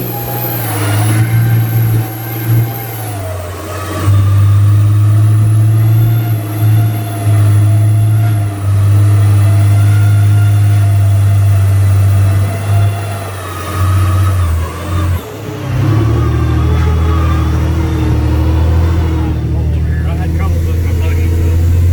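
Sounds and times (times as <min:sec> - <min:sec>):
truck engine droning: 0:00.0 - 0:21.9.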